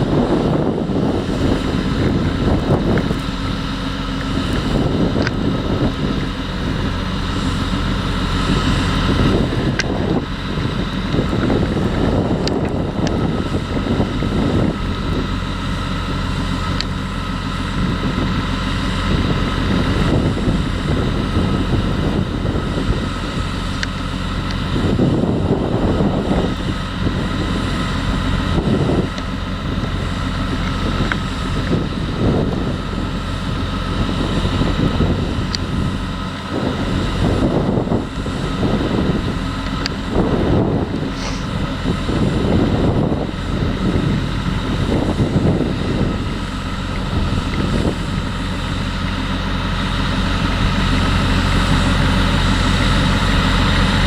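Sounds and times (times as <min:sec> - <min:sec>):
harvester and tractor engines droning: 0:00.0 - 0:54.0
wind buffeting microphone: 0:00.0 - 0:54.0.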